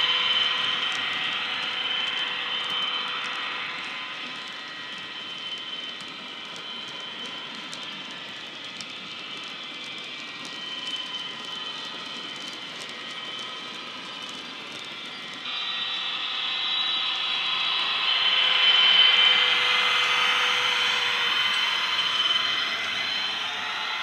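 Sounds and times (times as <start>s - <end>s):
cooling fan whine: 0.0s - 24.0s
model locomotive diesel engine: 0.0s - 24.0s.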